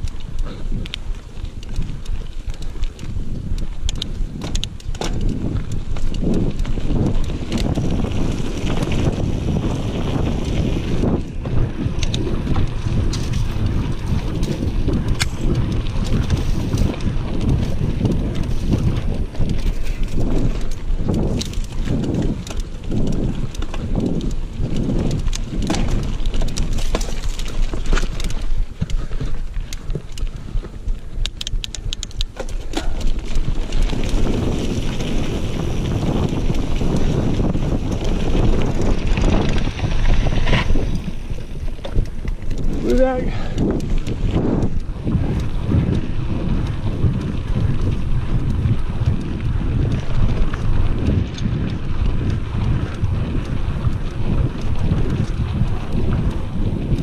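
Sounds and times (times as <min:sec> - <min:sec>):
bike clicks and rattles: 0:00.0 - 0:57.0
tyres rumbling on dirt trail: 0:00.0 - 0:57.0
wind buffeting microphone: 0:00.0 - 0:57.0.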